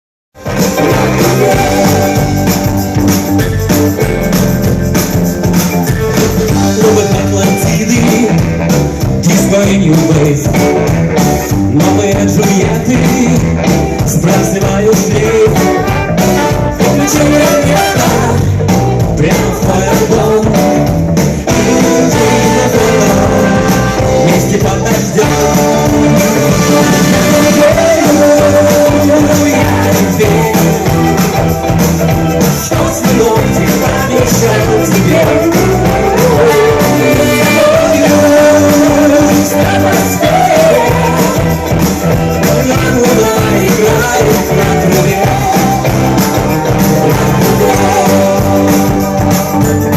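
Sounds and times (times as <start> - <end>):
band playing rock and roll: 0.4 - 49.9
guitar: 0.4 - 49.9
person singing: 0.5 - 3.0, 6.0 - 49.9.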